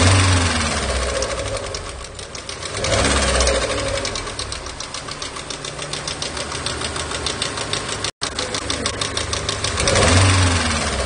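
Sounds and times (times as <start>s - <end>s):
car engine running with knocking: 0.0s - 11.0s.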